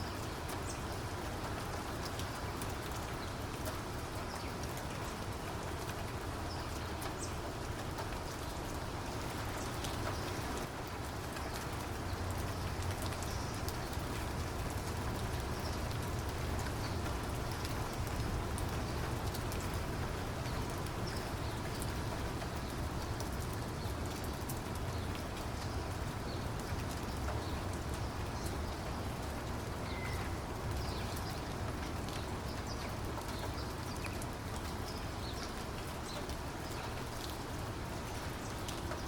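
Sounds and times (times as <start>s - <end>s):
low rain rumble: 0.0s - 39.0s
raindrops pattering: 0.0s - 39.0s.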